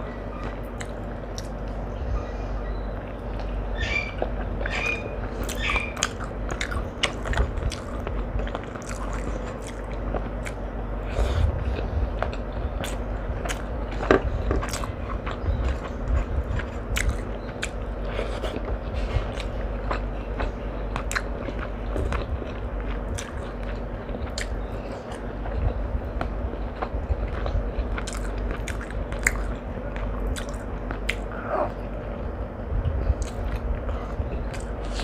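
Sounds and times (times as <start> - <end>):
person chewing food: 0.3 - 1.9, 3.3 - 32.1, 32.9 - 35.0.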